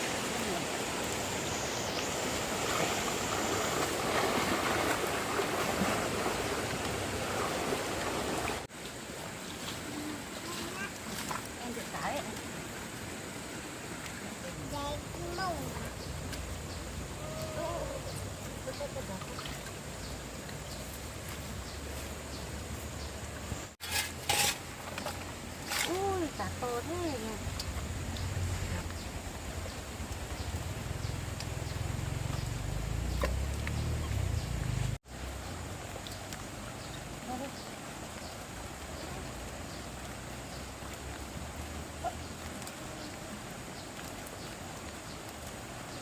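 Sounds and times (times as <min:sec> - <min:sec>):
rushing stream in flood: 0:00.0 - 0:46.0.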